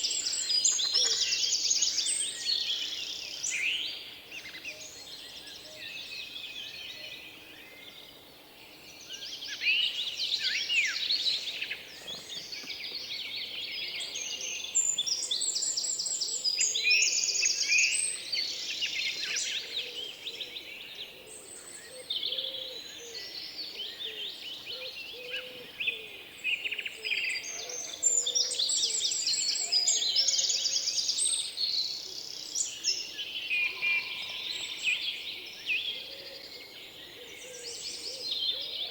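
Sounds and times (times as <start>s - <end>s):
songbirds chirping chorus: 0.0s - 38.9s.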